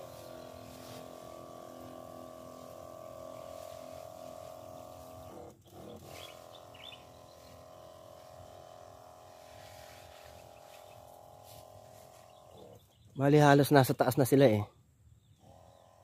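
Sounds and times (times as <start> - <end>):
sprayer pump buzzing: 0.0 - 13.7, 15.4 - 16.0.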